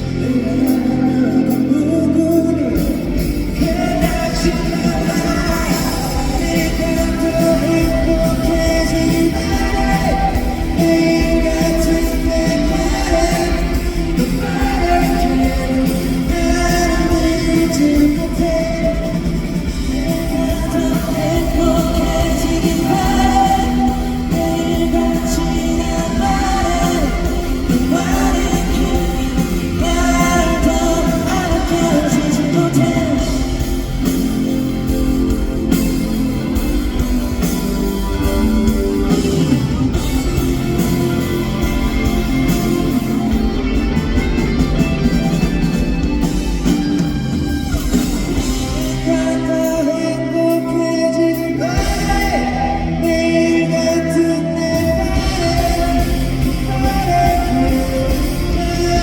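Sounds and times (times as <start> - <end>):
lead vocal singing: 0.0 - 59.0
live pop-rock band playing: 0.0 - 59.0.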